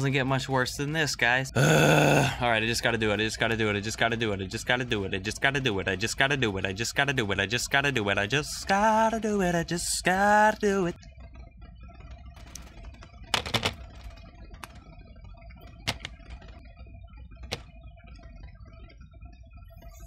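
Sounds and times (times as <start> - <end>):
quiet background music: 0.0 - 20.0.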